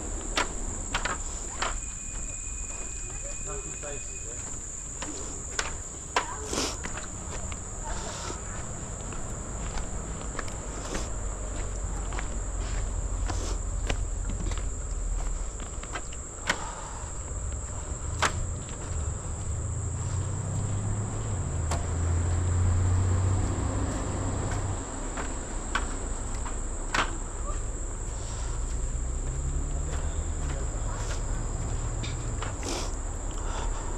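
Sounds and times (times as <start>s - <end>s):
high-pitched insect drone: 0.0s - 33.9s.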